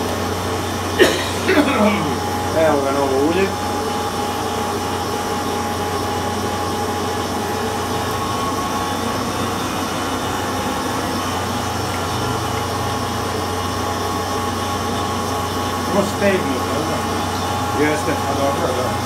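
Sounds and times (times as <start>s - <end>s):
oil pump humming: 0.0s - 19.0s
thin steady whine: 0.0s - 19.0s.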